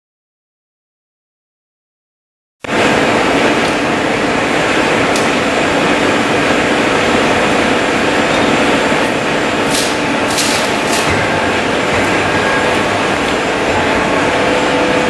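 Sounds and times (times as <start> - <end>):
lathe running: 2.6 - 15.0.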